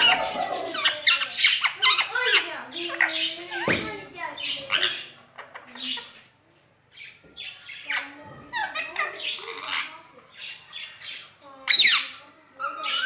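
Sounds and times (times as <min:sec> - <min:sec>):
parakeet calling and talking: 0:00.0 - 0:13.0.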